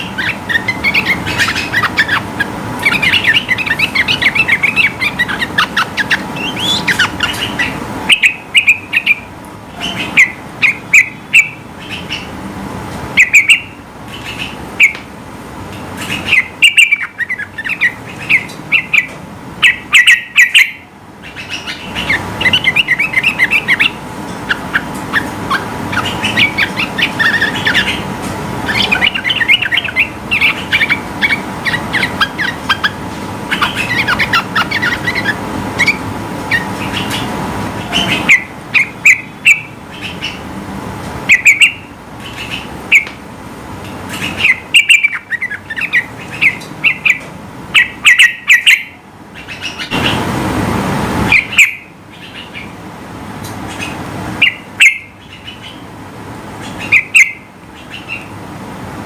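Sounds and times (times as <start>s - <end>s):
bird calling and chattering: 0.0s - 12.4s, 13.1s - 15.1s, 15.7s - 40.5s, 41.2s - 43.2s, 43.8s - 50.2s, 51.3s - 52.8s, 53.4s - 56.0s, 56.6s - 58.4s.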